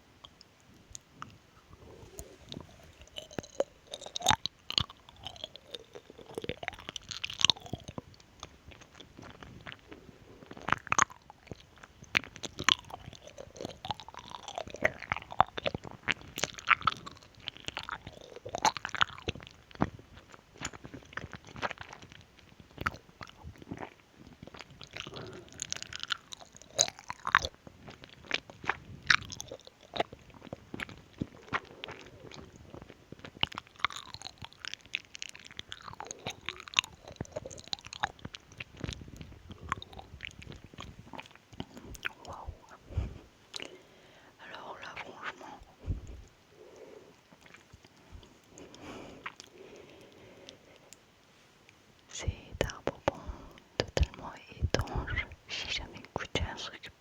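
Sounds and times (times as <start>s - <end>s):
lip and tongue clicks: 0.2s - 51.1s, 51.7s - 56.9s
person chewing gummy candy: 0.2s - 51.2s, 52.0s - 57.0s.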